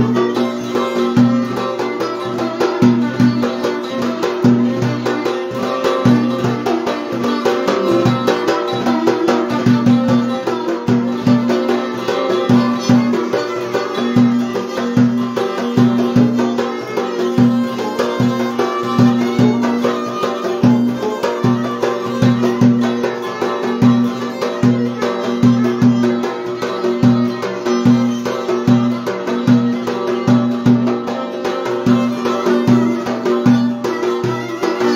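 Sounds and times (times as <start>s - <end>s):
folk dance tune on violin: 0.0s - 34.9s
stringed lute playing: 0.0s - 34.9s.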